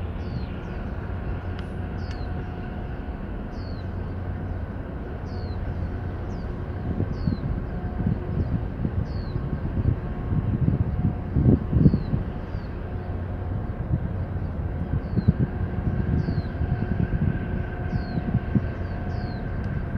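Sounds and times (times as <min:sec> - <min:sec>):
ship engine drone: 0:00.0 - 0:19.9
wind buffeting microphone: 0:00.0 - 0:19.9.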